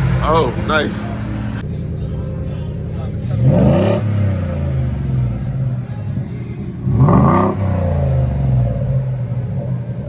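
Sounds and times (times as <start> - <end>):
pickup engine idling and revving: 0.0 - 10.0.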